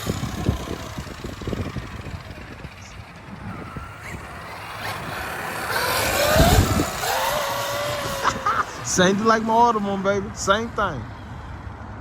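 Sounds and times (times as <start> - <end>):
toy truck motor and gears whining: 0.0 - 10.5.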